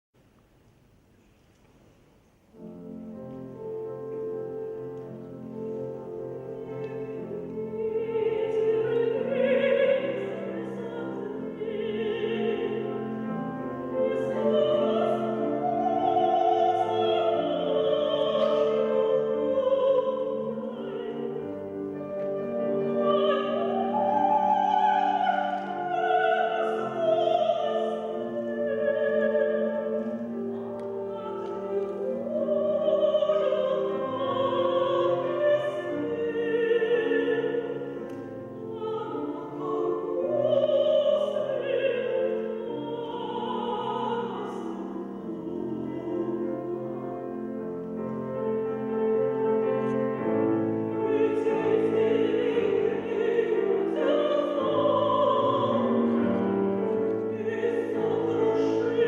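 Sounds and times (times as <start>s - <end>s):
piano accompaniment: 2.5s - 59.0s
soprano singing with vibrato: 2.6s - 59.0s.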